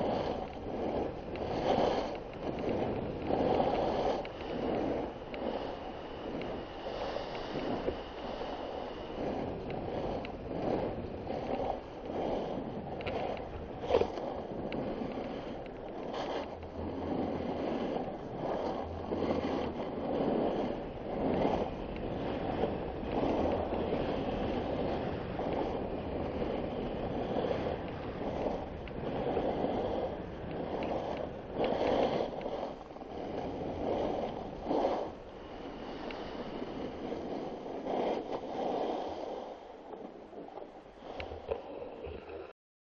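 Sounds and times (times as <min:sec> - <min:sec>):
snowboard scraping on snow: 0:00.0 - 0:42.4
wind on microphone: 0:00.0 - 0:42.6.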